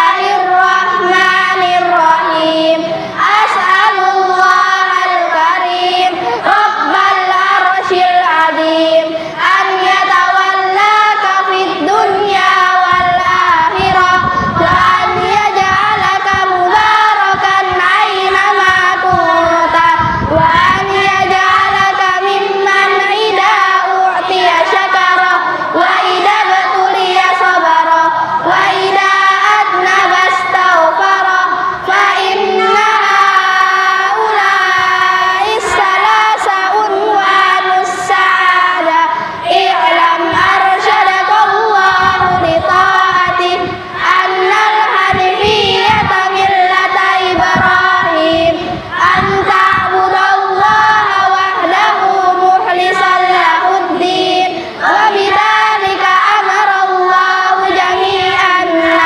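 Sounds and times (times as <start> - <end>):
children chanting in unison: 0.0 - 59.0.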